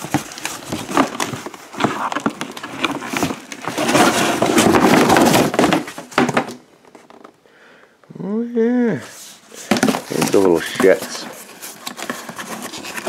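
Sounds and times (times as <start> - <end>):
packaging crackling and scraping: 0.0 - 7.4, 9.5 - 13.0.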